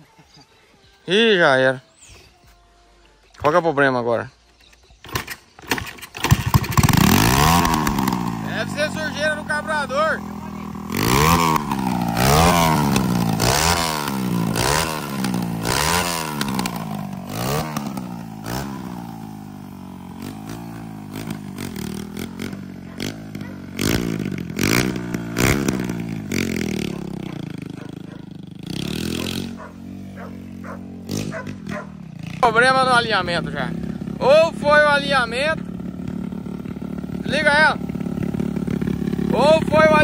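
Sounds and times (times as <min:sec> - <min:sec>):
dirt bike engine revving: 0:05.0 - 0:40.0.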